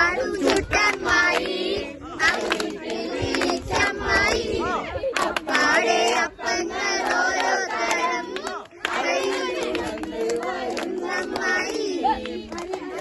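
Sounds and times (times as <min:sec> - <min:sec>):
group of people singing and shouting: 0:00.0 - 0:13.0.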